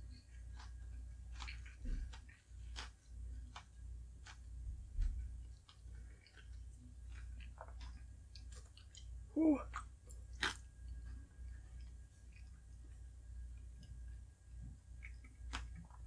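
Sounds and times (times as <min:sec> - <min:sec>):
chewing mouth clicks and smacks: 0:00.0 - 0:13.0, 0:13.6 - 0:16.0.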